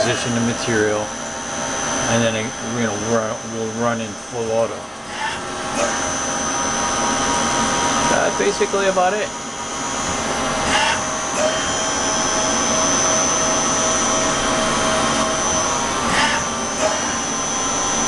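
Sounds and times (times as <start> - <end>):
lathe machine whirring: 0.0 - 18.0.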